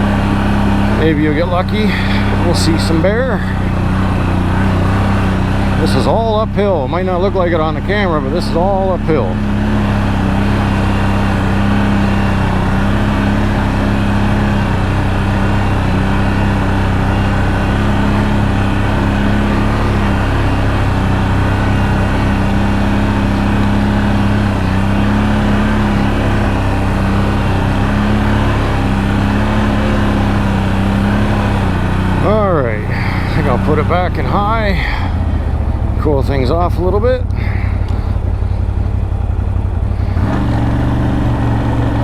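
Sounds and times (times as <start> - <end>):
atv engine running under load: 0.0 - 42.0.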